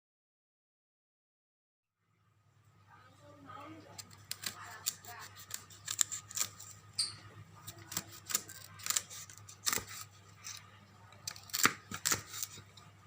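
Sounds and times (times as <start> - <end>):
low steady hum: 1.9 - 13.0.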